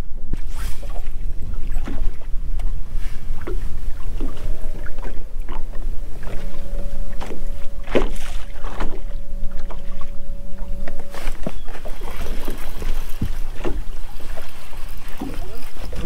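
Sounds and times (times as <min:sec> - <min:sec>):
water lapping against hull: 0:00.0 - 0:16.0
wind rumble on microphone: 0:00.0 - 0:16.0
electric trolling motor humming: 0:02.3 - 0:16.0.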